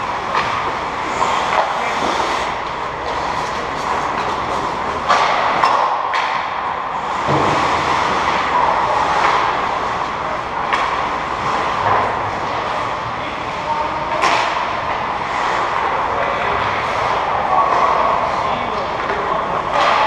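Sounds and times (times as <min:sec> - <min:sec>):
hockey sticks and puck clacks: 0:00.0 - 0:20.0
skates scraping ice: 0:00.0 - 0:20.0.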